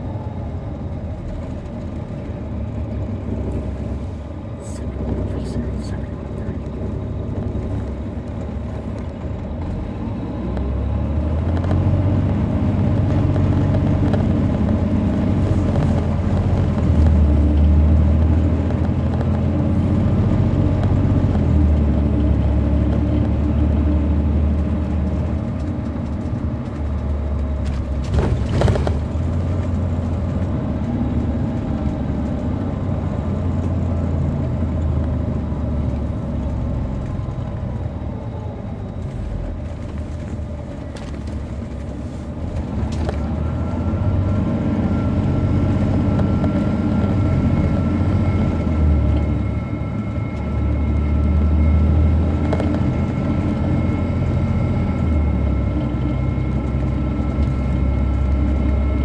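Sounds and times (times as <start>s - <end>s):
diesel bus engine pulling hard: 0.0s - 59.0s.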